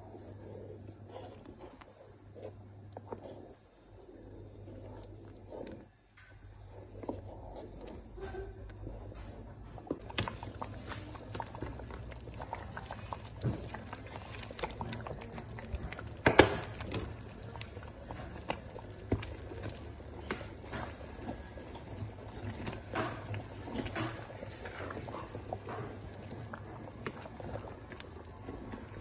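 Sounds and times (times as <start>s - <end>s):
thick soup bubbling: 0.0s - 29.0s.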